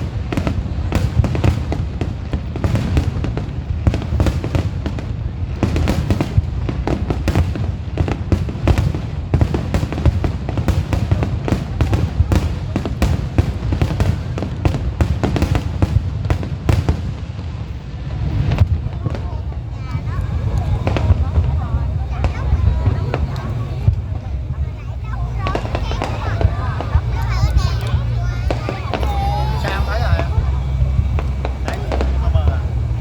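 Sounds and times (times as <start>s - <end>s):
fireworks cracks and bangs: 0.0s - 33.0s
low rumble: 0.0s - 33.0s.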